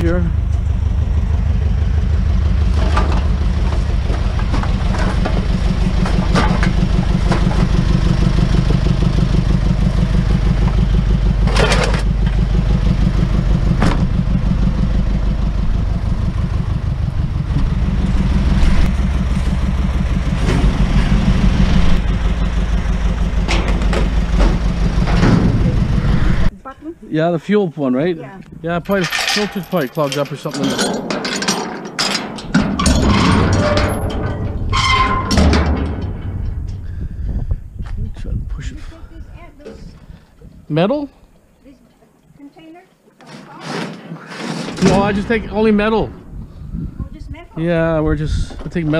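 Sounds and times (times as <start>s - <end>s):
engine running steadily: 0.0s - 27.1s, 32.4s - 40.8s, 44.8s - 48.9s.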